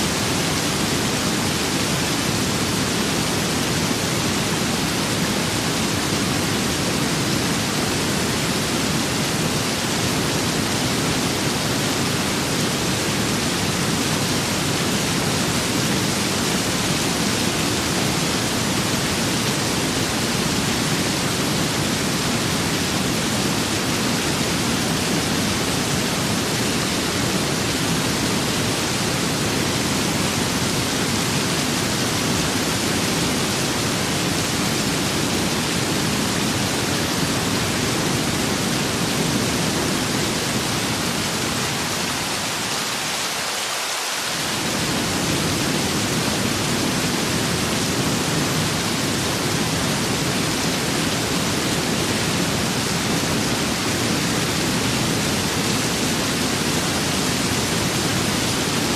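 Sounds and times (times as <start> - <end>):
rain and wind hiss: 0.0 - 58.9.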